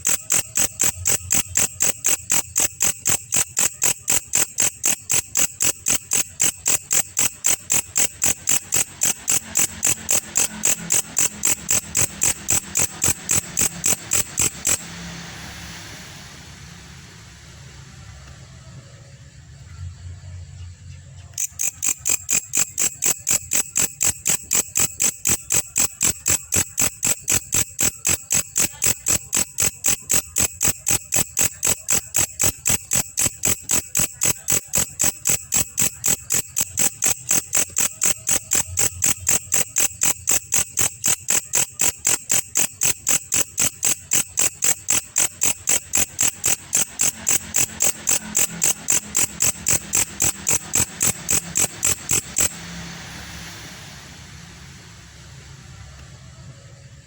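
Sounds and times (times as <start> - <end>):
katydid chirping: 0.0 - 15.2, 21.2 - 52.9.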